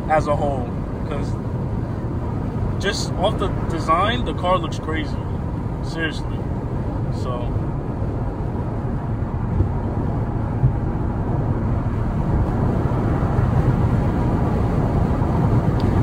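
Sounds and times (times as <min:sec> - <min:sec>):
car engine and exhaust rumble: 0:00.0 - 0:16.0
road noise: 0:00.0 - 0:16.0.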